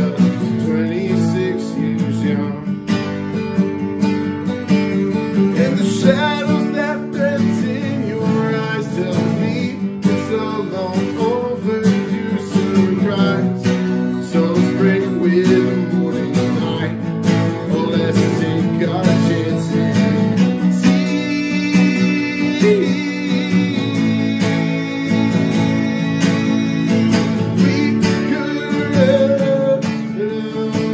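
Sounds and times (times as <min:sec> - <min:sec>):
acoustic guitars strummed: 0:00.0 - 0:30.9.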